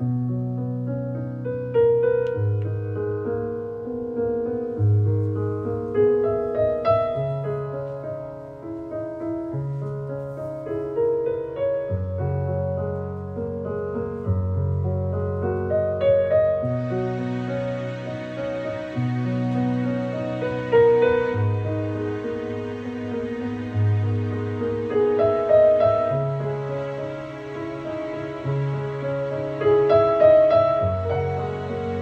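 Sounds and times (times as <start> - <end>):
slow piano music: 0.0 - 32.0
soft hiss: 0.9 - 32.0.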